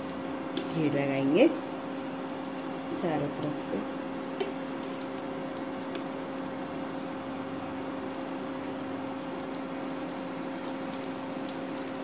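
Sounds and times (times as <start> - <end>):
batter sizzling in pan: 0.0 - 12.0
constant low hum: 0.0 - 12.0.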